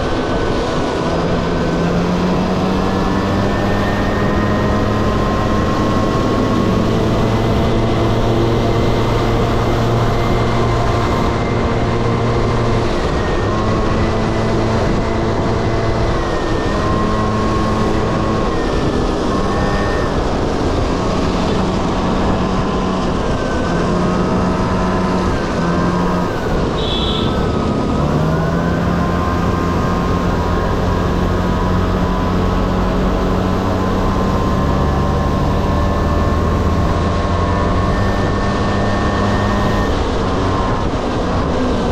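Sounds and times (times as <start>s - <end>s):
scooter engine running: 0.0s - 41.9s
steady rushing noise: 0.0s - 41.9s.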